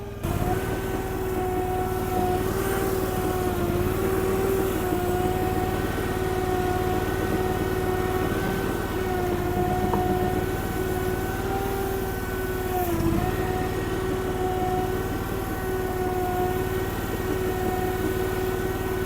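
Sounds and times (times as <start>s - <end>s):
skid steer engine running: 0.0s - 19.0s.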